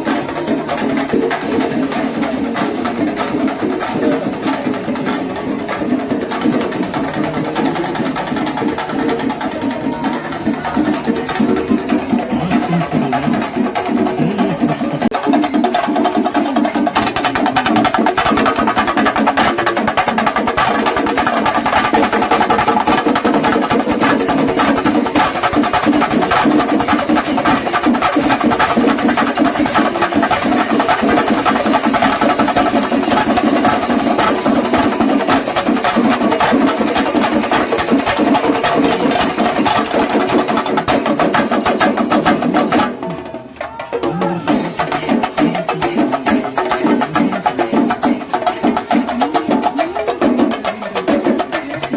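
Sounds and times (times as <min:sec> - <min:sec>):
drum ensemble playing fast rhythm: 0:00.0 - 0:51.9.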